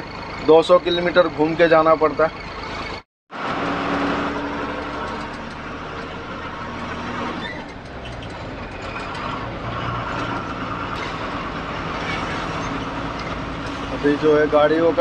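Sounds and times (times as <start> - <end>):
truck engine running: 0.0 - 15.0
tyre and road noise: 0.0 - 15.0.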